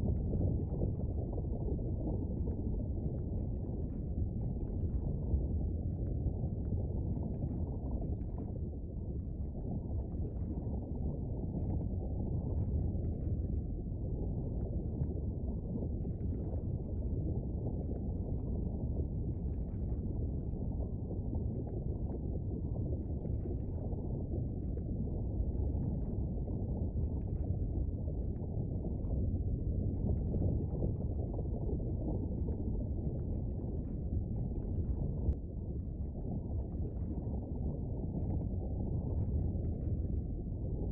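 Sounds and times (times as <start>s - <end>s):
faint crackles and pops: 0.0s - 40.9s
low steady volcano rumble: 0.0s - 40.9s.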